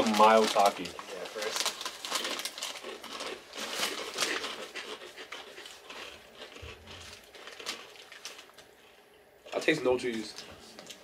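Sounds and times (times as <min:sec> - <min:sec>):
chewing crunchy chips: 0:00.0 - 0:11.0.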